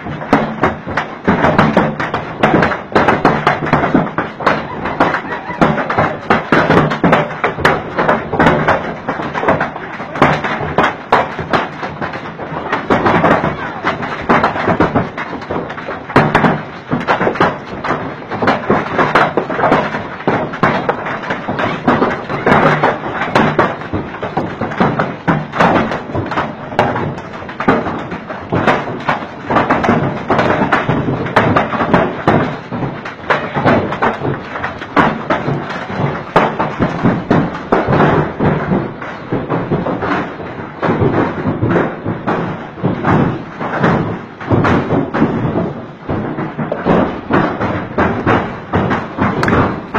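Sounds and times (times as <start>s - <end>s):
hailstones pelting down: 0.0s - 49.9s.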